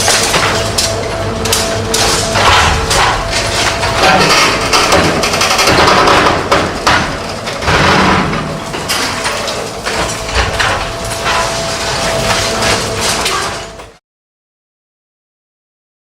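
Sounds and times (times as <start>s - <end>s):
demolition machinery running: 0.0s - 14.0s
knocks and clatter on concrete: 0.0s - 14.0s
steady machine whine: 0.0s - 14.0s.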